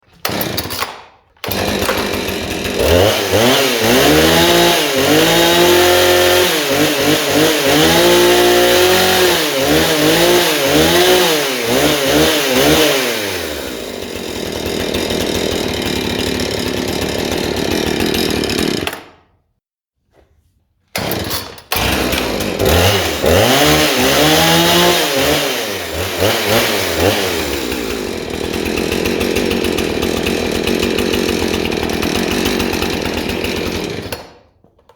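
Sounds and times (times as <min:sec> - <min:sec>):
chainsaw engine revving: 0:00.2 - 0:19.1, 0:21.0 - 0:34.4.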